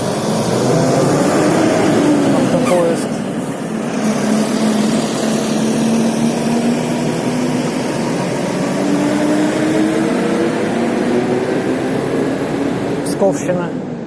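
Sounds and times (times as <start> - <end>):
motorcycle engine accelerating: 0.0 - 13.0
wind and road noise: 0.0 - 14.0.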